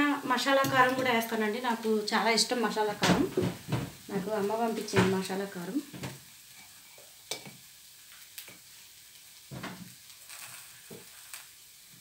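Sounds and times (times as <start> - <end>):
batter sizzling in a pan: 0.0 - 12.0.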